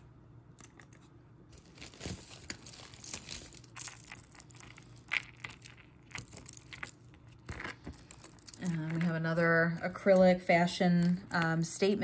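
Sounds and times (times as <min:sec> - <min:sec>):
crinkling: 0:00.6 - 0:12.0
necklace clicking and rattling: 0:00.6 - 0:12.0.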